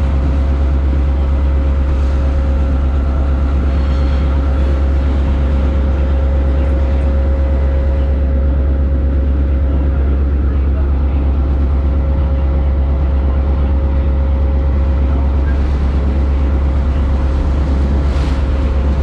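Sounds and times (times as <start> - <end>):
steady high whine: 0.0 - 19.0
train rumbling: 0.0 - 19.0.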